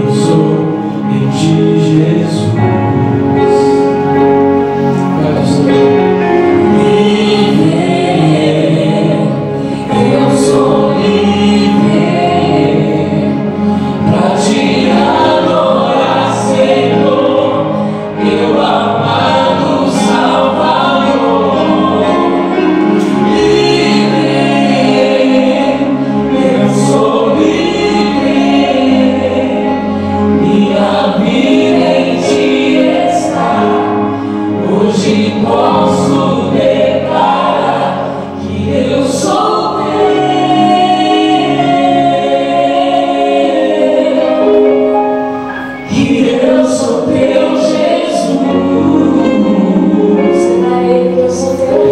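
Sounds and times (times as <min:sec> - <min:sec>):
band playing: 0:00.0 - 0:51.9
choir singing: 0:00.0 - 0:51.9.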